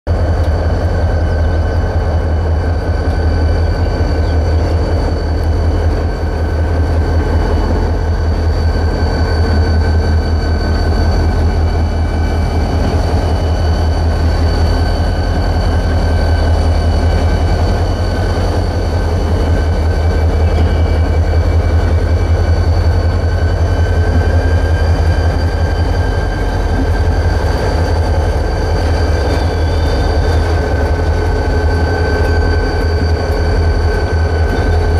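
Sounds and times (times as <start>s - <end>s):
freight train rumbling past: 0.1s - 34.9s.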